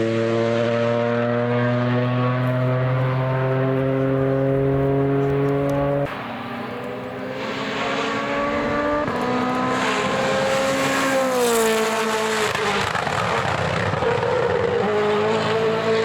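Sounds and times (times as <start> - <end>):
gravel and tyre noise: 0.0 - 16.0
rally car engine at full throttle: 0.0 - 16.0.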